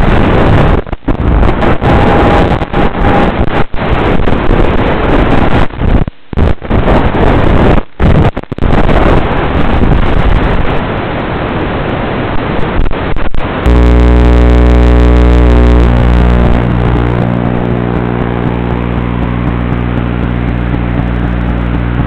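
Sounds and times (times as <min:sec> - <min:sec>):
steady low buzz: 0:00.0 - 0:09.1, 0:13.4 - 0:22.0
rough video link noise: 0:00.0 - 0:22.0.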